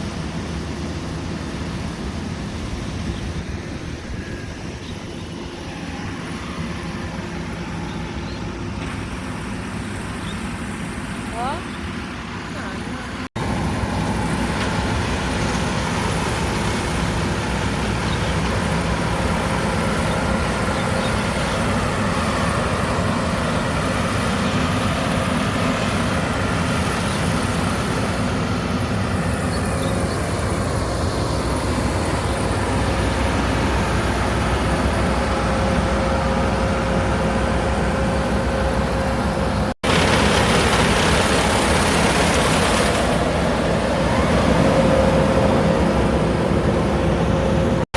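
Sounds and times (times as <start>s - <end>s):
combine harvester engine humming: 0.0s - 47.9s.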